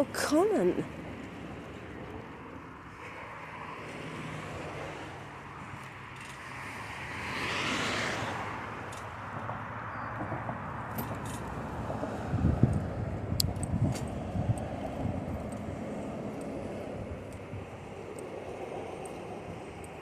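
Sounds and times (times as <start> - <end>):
road noise while cycling: 0.0 - 20.0
motor vehicle passing: 2.9 - 19.8.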